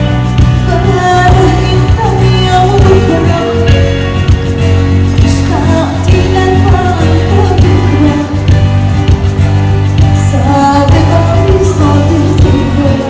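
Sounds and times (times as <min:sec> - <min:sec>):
sustained bass: 0:00.0 - 0:13.0.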